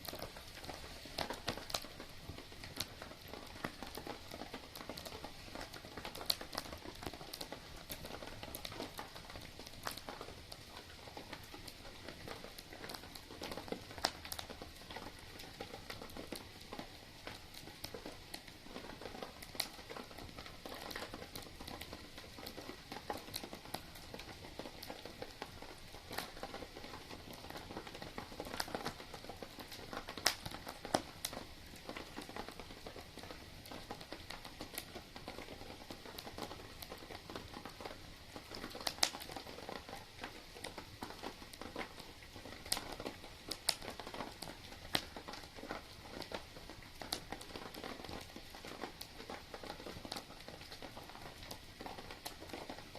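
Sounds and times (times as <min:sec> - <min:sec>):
campfire crackling: 0:00.0 - 0:52.9
soft steady hiss: 0:00.0 - 0:52.9.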